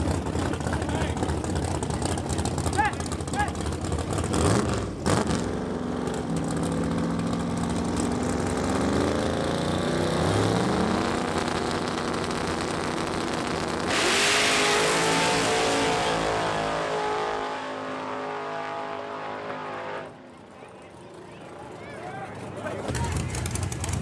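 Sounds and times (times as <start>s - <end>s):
truck engines revving and launching: 0.0s - 24.0s.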